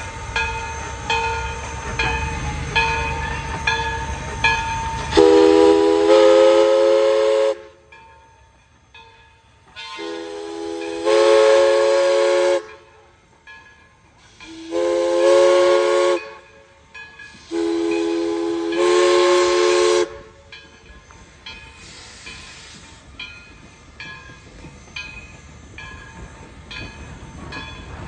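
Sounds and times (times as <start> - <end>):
steam locomotive chime whistle: 0.0 - 28.0
train rumbling: 0.0 - 28.0.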